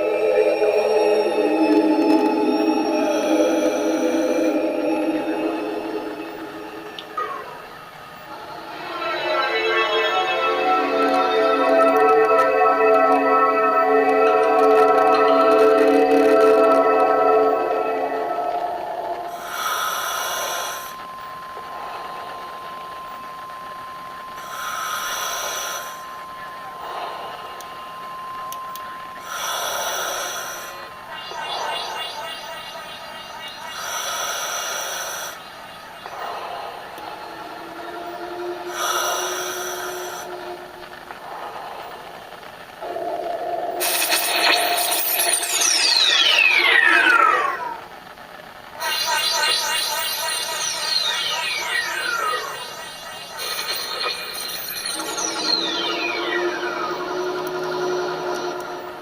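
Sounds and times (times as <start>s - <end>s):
ringing tone: 0.0s - 47.9s, 48.7s - 59.0s
hissing noise bursts: 0.0s - 59.0s
thin steady high tone: 0.0s - 59.0s.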